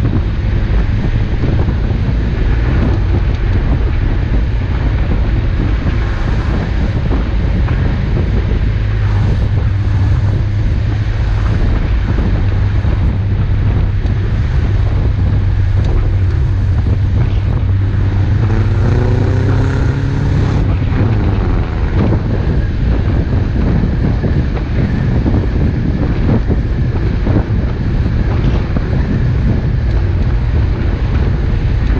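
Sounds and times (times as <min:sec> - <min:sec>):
low engine drone: 0:00.0 - 0:31.9.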